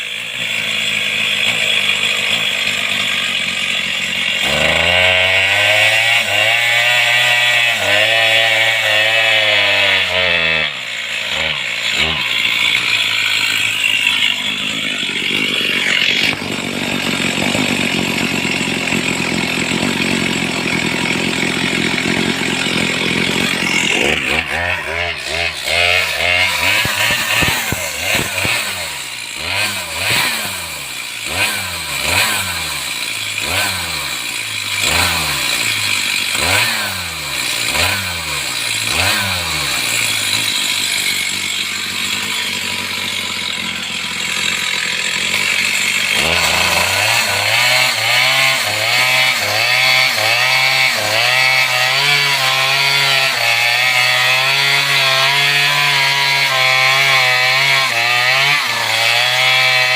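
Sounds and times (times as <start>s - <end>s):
chainsaw revving and cutting: 0.0s - 59.9s.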